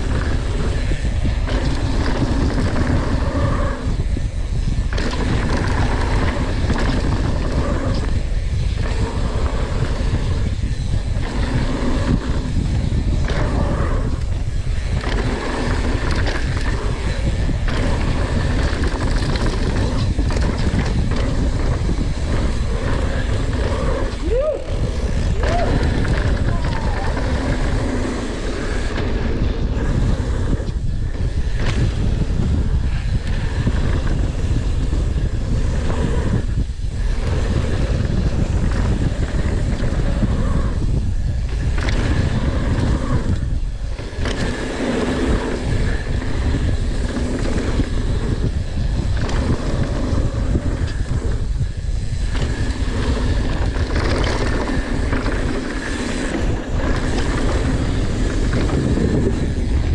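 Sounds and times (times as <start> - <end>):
bike tyre noise and rattle: 0.0 - 59.9
wind rush on microphone: 0.0 - 59.9.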